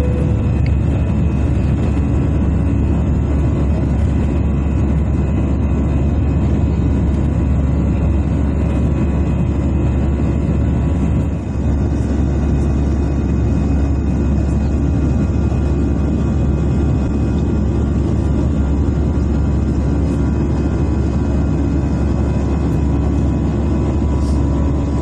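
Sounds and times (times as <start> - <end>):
jet engine cabin rumble: 0.0 - 25.0.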